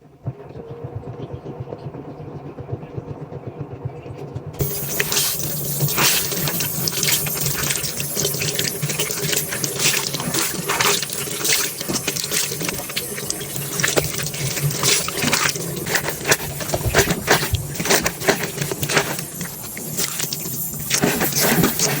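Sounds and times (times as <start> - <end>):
low steady hum: 0.1 - 22.0
water gushing into washing machine: 0.2 - 22.0.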